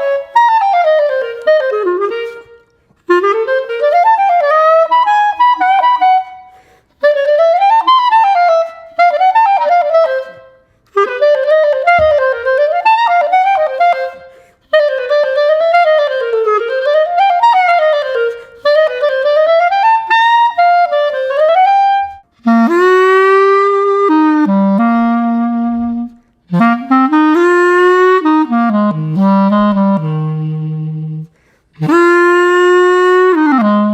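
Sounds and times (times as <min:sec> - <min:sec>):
clarinet playing quick runs: 0:00.0 - 0:33.9.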